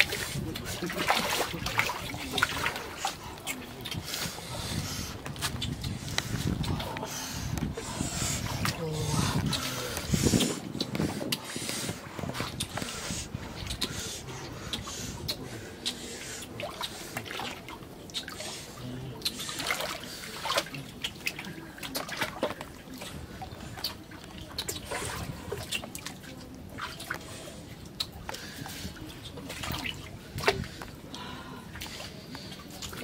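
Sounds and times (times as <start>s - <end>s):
water splashing: 0.0s - 33.0s.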